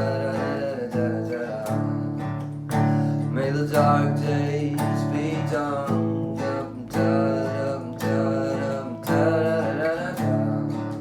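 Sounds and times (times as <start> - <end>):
instrumental song accompaniment: 0.0 - 11.0.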